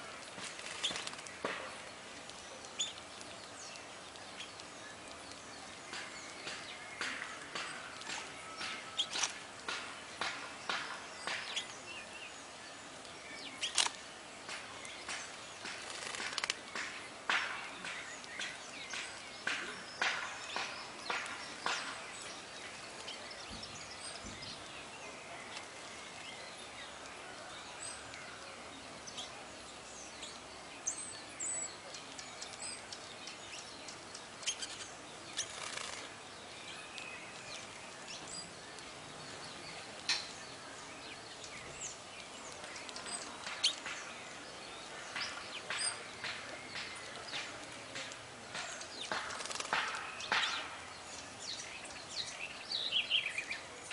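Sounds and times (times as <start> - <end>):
outdoor background hiss: 0.0 - 53.9
small songbirds chirping: 0.0 - 53.9.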